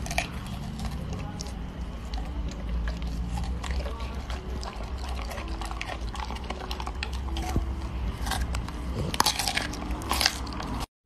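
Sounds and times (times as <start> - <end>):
dog crunching broccoli: 0.0 - 10.9.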